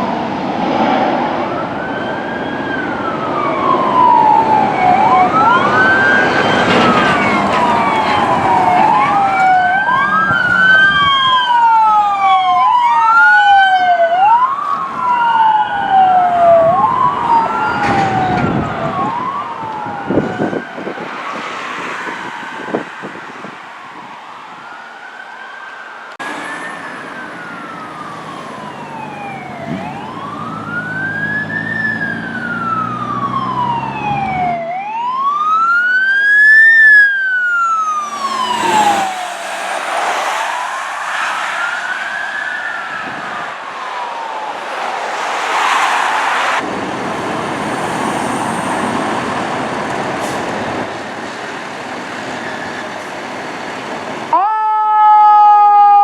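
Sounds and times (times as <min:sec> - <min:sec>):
fire engine rumble: 0:00.0 - 0:21.4, 0:26.2 - 0:54.4
wailing siren: 0:00.0 - 0:51.3, 0:54.2 - 0:56.0
road noise rush: 0:00.0 - 0:56.0.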